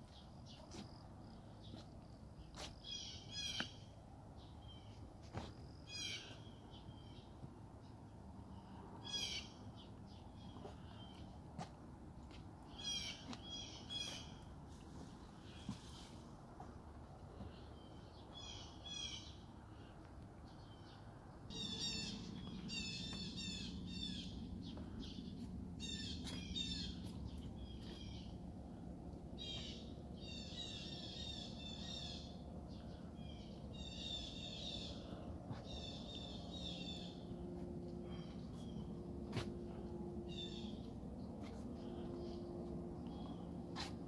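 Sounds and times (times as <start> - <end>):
songbird singing: 0.0 - 11.7, 12.3 - 44.0
steady low hum: 0.0 - 44.0.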